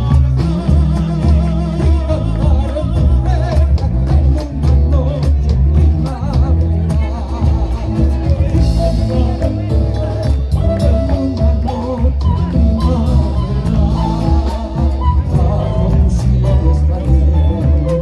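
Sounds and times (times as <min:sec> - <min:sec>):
acoustic guitar: 0:00.0 - 0:18.0
bass beat: 0:00.0 - 0:18.0
bass drum: 0:00.0 - 0:18.0.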